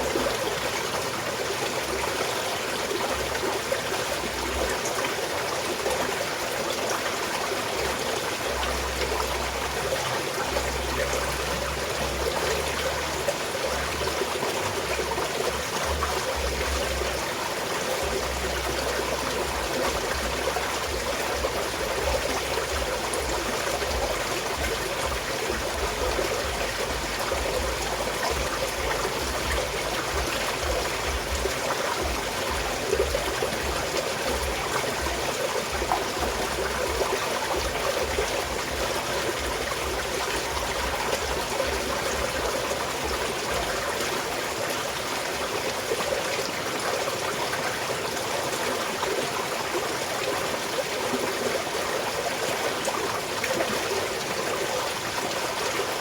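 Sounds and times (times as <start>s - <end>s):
stream flowing and trickling: 0.0s - 56.0s.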